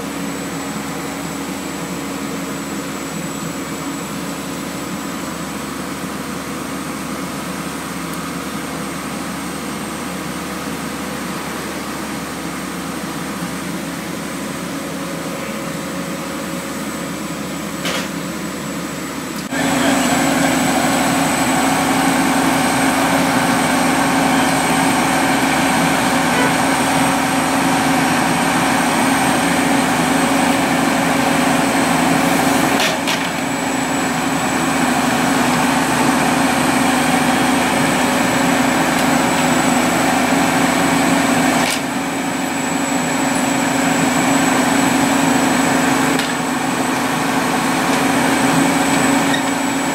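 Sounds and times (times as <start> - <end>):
drilling rig engine running: 0.0 - 49.9.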